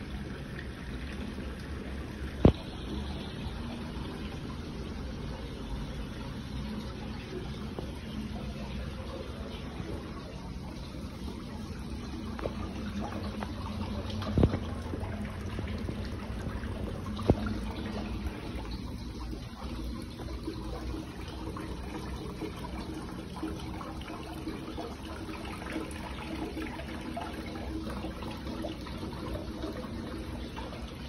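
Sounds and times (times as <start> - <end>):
water trickling: 0.0 - 31.0.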